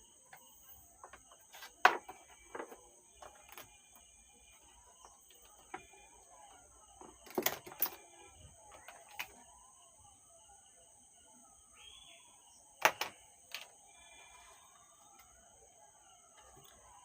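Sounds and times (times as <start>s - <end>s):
faint birds chirping: 0.0s - 17.0s
insects droning: 0.0s - 17.0s.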